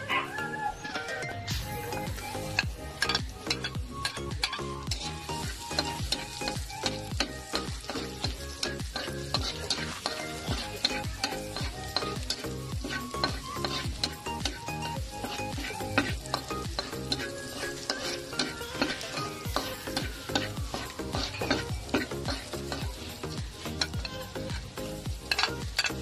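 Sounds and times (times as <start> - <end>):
background music with steady beat: 0.0 - 26.0
metal spatula scraping wok: 0.1 - 26.0
garlic sizzling in hot oil: 0.8 - 26.0.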